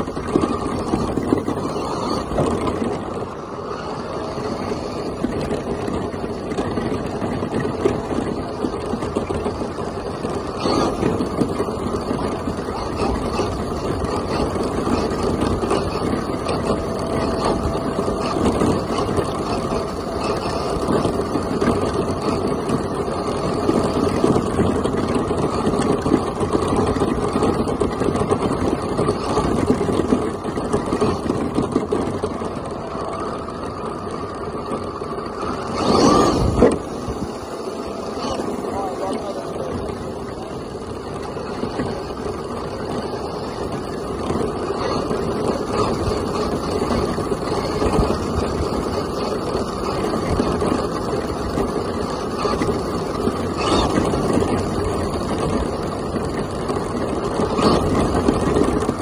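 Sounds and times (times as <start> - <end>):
model truck drivetrain and tyre noise: 0.0 - 59.0.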